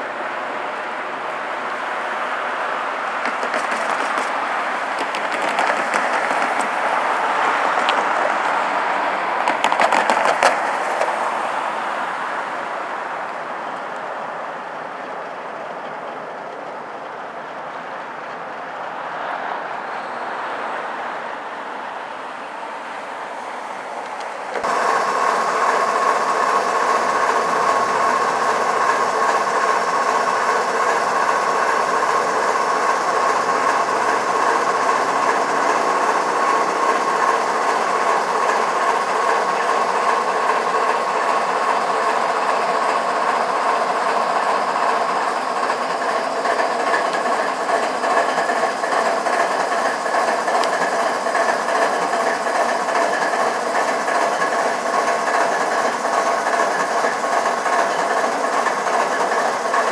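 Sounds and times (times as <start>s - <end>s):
diesel locomotives running: 0.0s - 59.9s
steady mechanical whine: 0.0s - 59.9s.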